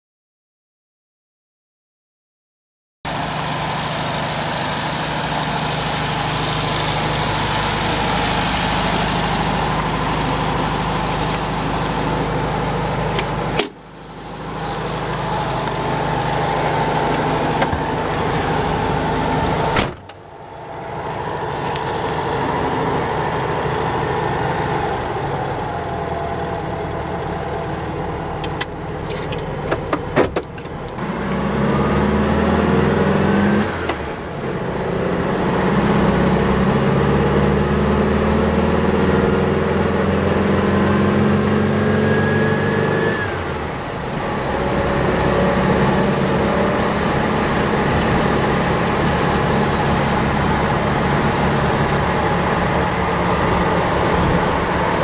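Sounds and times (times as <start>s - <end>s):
car engine running from inside: 3.1s - 55.0s.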